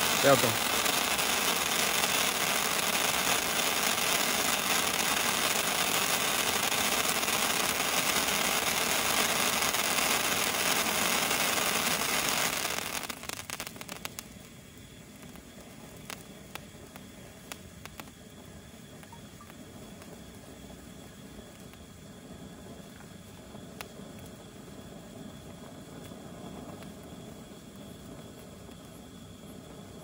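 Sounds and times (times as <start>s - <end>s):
firework wand hissing sparks: 0.0s - 30.0s
scattered crackles: 0.0s - 30.0s.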